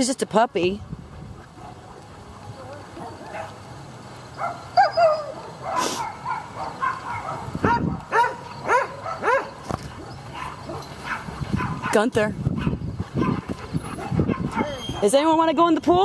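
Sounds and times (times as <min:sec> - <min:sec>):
dogs barking: 0:01.2 - 0:15.3.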